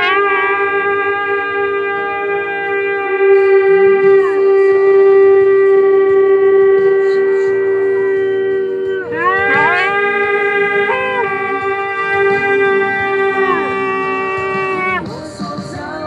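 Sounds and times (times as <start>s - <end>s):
shofar blasts: 0.0s - 15.3s.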